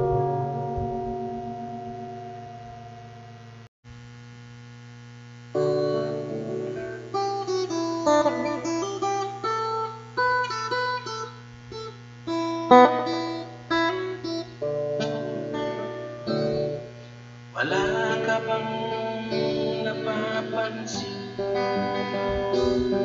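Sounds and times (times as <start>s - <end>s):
acoustic guitar playing solo: 0.0s - 3.4s, 5.6s - 17.0s, 17.8s - 23.0s.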